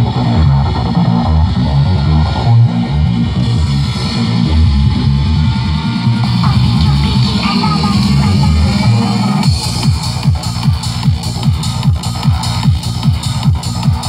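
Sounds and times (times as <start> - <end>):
loud rave music: 0.0 - 14.0.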